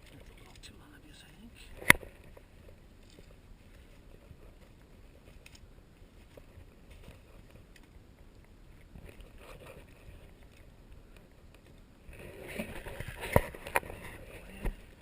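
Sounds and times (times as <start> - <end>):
light clicks and rustles: 0.0 - 0.8, 1.6 - 15.0.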